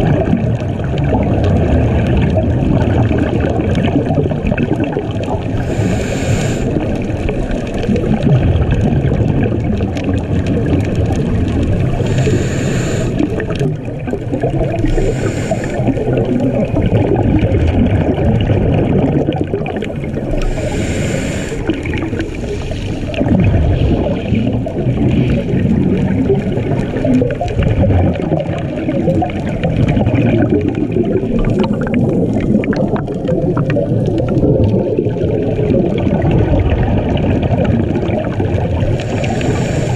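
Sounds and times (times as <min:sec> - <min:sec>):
bubbling bursts: 0:00.0 - 0:39.9
muffled underwater rushing water: 0:00.0 - 0:39.9.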